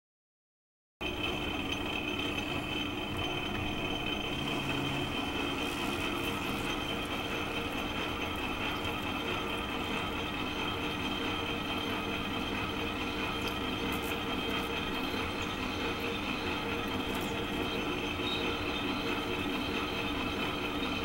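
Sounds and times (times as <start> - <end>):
high whine of cutting tool: 1.0 - 21.0
metal lathe humming: 1.0 - 21.0.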